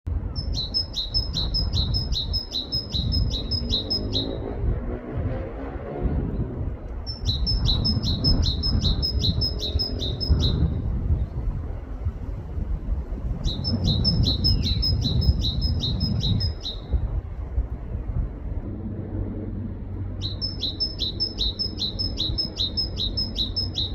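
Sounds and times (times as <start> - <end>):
steady low rumble: 0.1 - 23.9.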